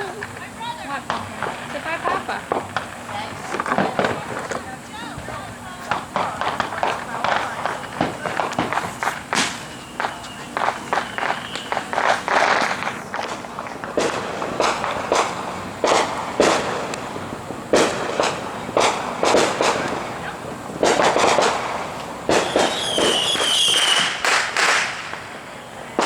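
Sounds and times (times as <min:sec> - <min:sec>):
firework bangs with echo: 0:00.0 - 0:26.0
whistling firework: 0:00.0 - 0:26.0.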